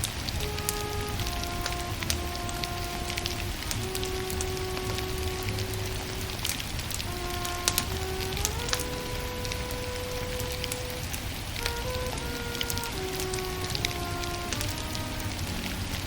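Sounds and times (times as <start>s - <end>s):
firewood crackling and popping: 0.0s - 16.0s
soft music with held notes: 0.0s - 16.0s.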